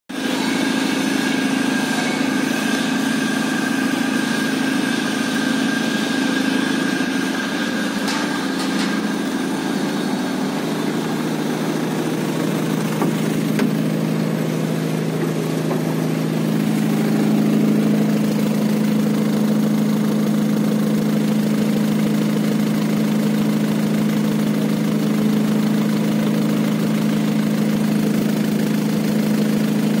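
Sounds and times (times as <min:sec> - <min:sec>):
diesel truck engine idling: 0:01.5 - 0:30.0.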